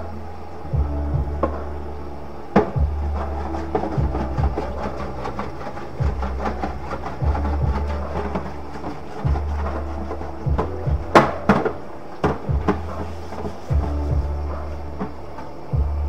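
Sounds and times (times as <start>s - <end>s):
low hum: 0.0s - 16.0s
hard objects knocking: 2.5s - 15.9s.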